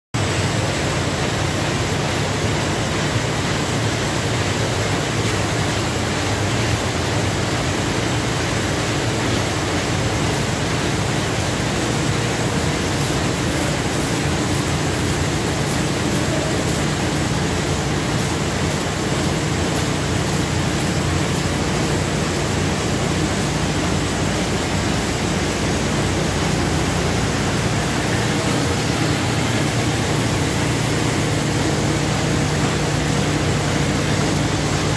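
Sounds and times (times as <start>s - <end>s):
paper bag machine running: 0.2s - 34.9s.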